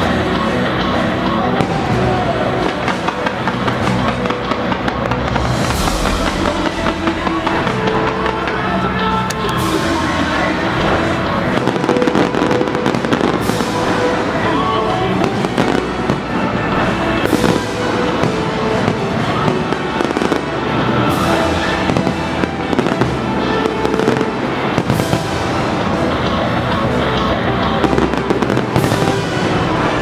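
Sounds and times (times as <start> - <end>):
fireworks crackling and popping: 0.0 - 30.0
music: 0.0 - 30.0
fireworks bangs: 0.1 - 30.0.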